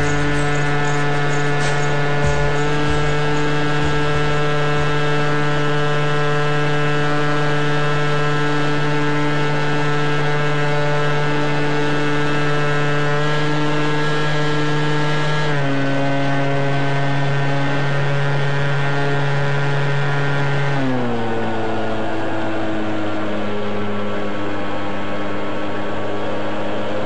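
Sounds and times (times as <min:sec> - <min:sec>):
model airplane motor droning: 0:00.0 - 0:27.0.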